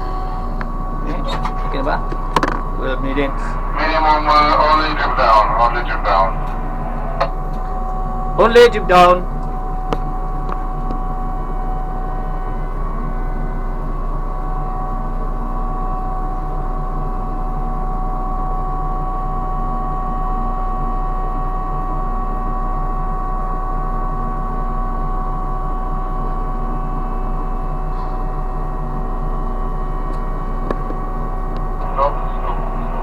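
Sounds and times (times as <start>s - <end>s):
crane machinery whining: 0.0s - 33.0s.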